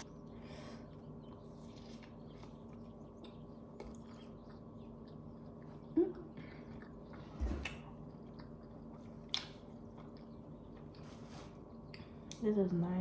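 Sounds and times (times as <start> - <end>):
person chewing food: 1.1 - 12.4.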